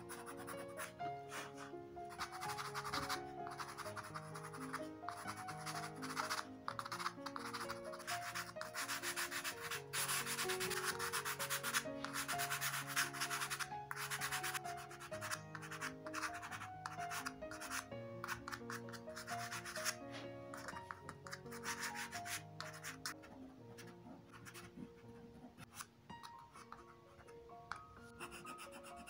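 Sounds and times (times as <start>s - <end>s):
pastel scratching on textured card: 0.0s - 29.0s
soft background music: 0.0s - 29.0s.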